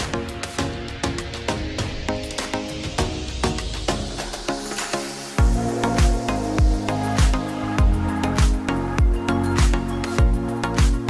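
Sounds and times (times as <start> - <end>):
music with percussive beat: 0.0 - 11.0.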